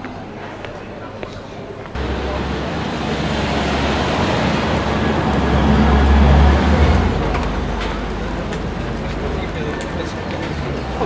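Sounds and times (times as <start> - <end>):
car driving past on cobblestones: 2.0 - 11.0.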